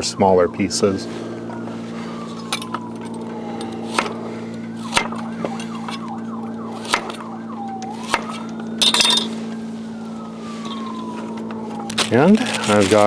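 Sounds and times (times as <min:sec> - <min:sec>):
emergency siren wailing: 0:00.0 - 0:13.0
low hum: 0:00.6 - 0:12.9.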